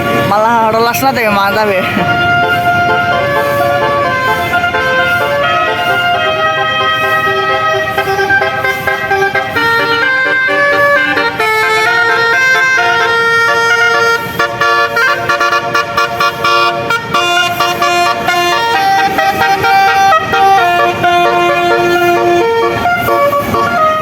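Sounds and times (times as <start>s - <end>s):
musical air horn melody: 0.0s - 24.0s.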